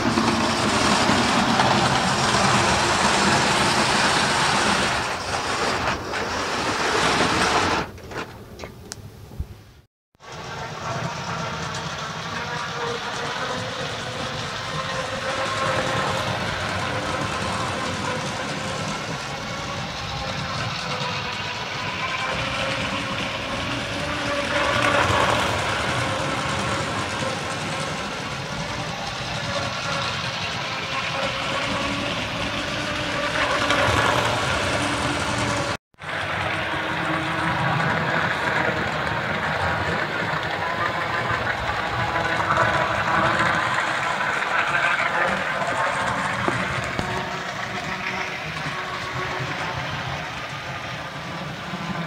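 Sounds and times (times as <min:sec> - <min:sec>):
model train motor whine: 0:00.0 - 0:08.2, 0:10.2 - 0:52.0
model train wheel rumble: 0:00.0 - 0:08.7, 0:10.2 - 0:52.0.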